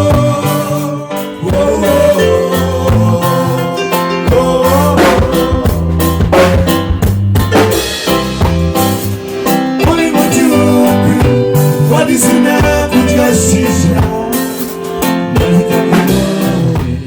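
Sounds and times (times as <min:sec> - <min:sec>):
band music with plucked guitar: 0:00.0 - 0:17.0.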